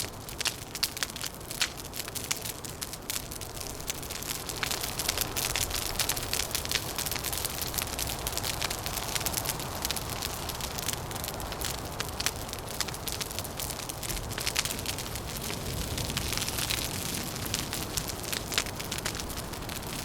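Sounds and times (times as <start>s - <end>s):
low rush of wind: 0.0s - 20.0s
wood fire crackling: 0.0s - 20.0s.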